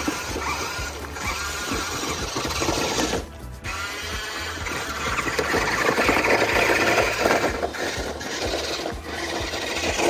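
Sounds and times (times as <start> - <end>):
electric motor and gears whirring: 0.0 - 10.0.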